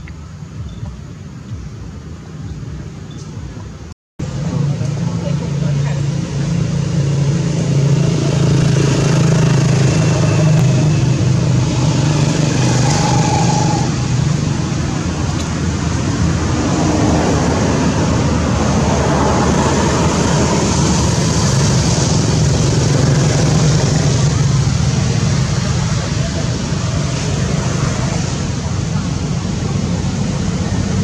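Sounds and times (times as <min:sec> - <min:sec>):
low engine hum: 0:00.0 - 0:31.0
road traffic: 0:00.0 - 0:31.0.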